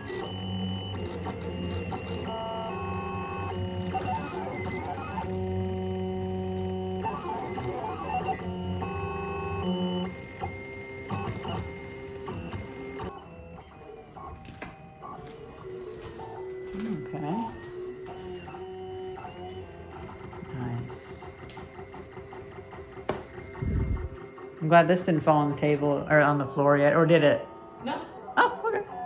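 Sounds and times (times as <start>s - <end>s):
printer stepper motors humming: 0.0s - 29.0s.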